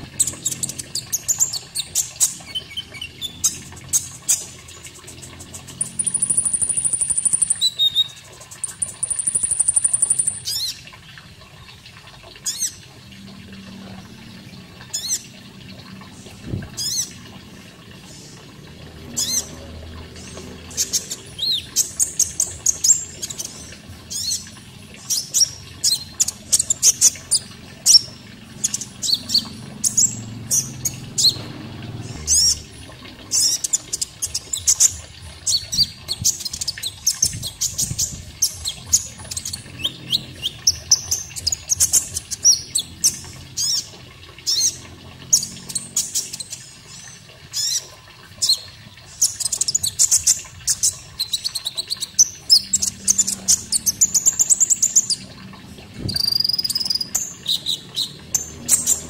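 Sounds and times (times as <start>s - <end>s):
bird chirping and trilling: 0.0s - 10.8s, 14.9s - 15.3s, 16.5s - 17.3s, 19.0s - 55.3s, 56.0s - 59.0s
running water: 0.0s - 59.0s.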